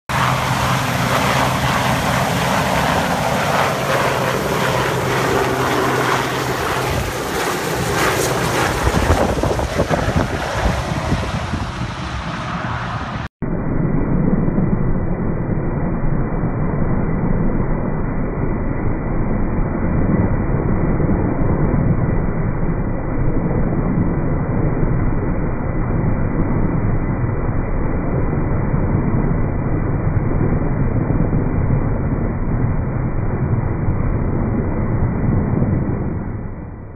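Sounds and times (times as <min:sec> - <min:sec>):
helicopter engines and rotor: 0:00.1 - 0:36.9
muffled rotor rumble: 0:00.1 - 0:36.9.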